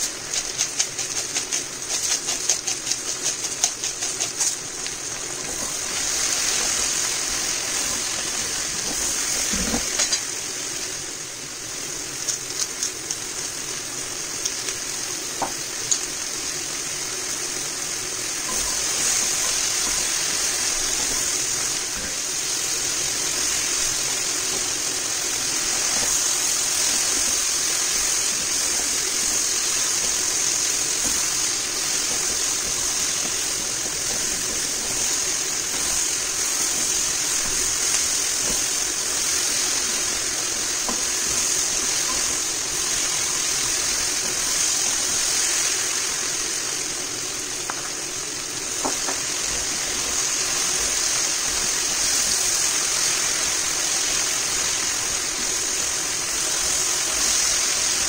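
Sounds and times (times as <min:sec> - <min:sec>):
vegetables sizzling in a pot: 0:00.0 - 0:58.0.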